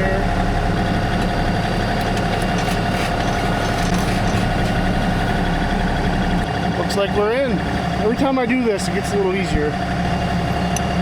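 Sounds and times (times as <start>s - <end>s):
constant whine: 0.0s - 11.0s
tractor diesel engine running: 0.0s - 11.0s.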